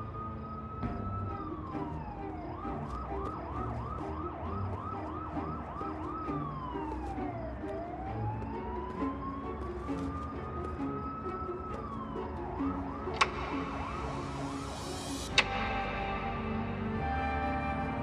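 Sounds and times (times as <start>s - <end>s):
emergency vehicle siren: 0.0s - 18.0s
music: 0.0s - 18.0s.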